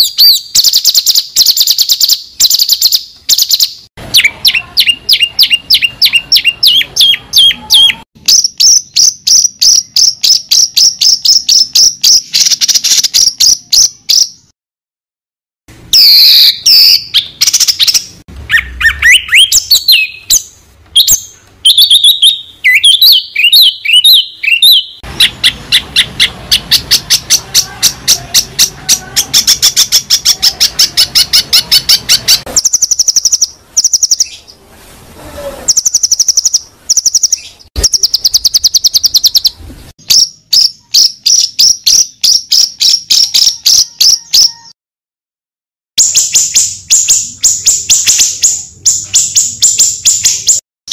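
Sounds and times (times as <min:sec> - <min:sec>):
songbird whistling and chirping: 0:00.0 - 0:14.5, 0:15.9 - 0:34.6, 0:35.7 - 0:44.8, 0:46.0 - 0:50.6.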